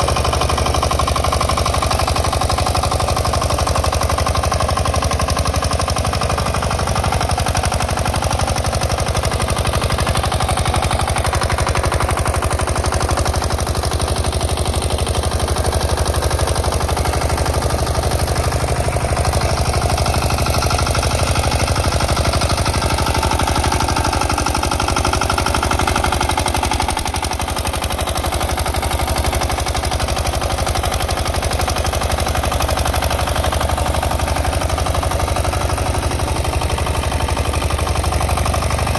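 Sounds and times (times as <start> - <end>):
diesel engine clattering: 0.0 - 38.9.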